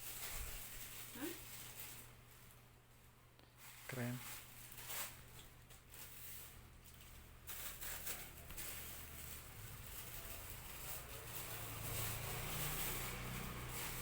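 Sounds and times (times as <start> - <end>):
rustling and handling noise: 0.0 - 14.0.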